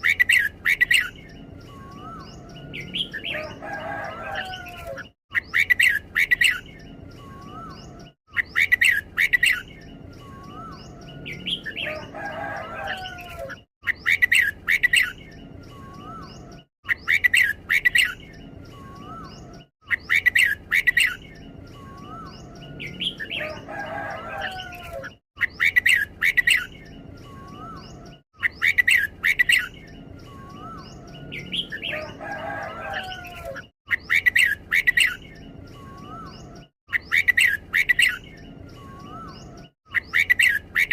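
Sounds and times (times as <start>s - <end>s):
bulbul singing: 0.0s - 40.9s.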